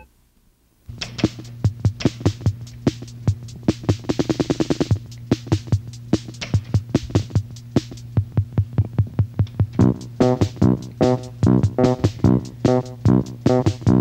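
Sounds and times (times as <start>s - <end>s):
drum machine beat: 0.9s - 14.0s.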